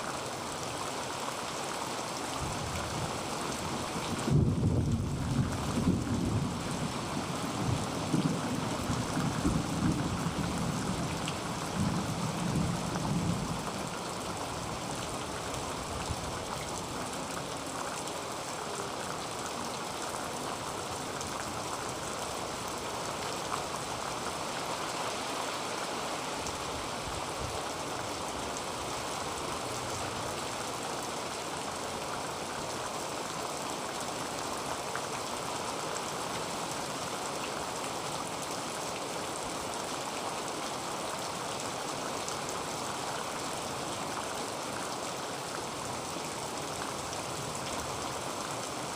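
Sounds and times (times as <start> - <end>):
heavy rain on a tin roof: 0.0 - 48.9.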